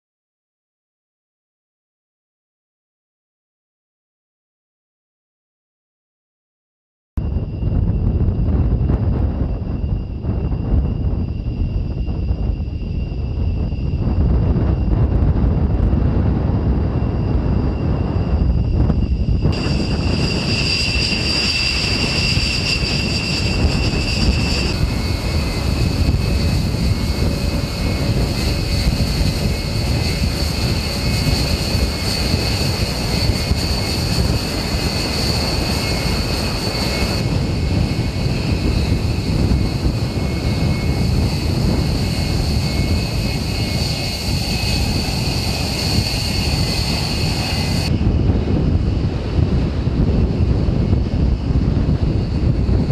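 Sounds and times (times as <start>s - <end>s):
high-pitched turbine whine: 7.2s - 52.9s
jet engines roaring: 7.2s - 52.9s.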